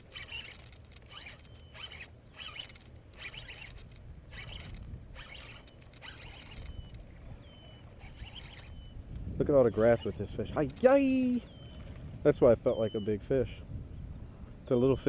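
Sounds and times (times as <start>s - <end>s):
fishing reel whirring: 0.0s - 13.5s.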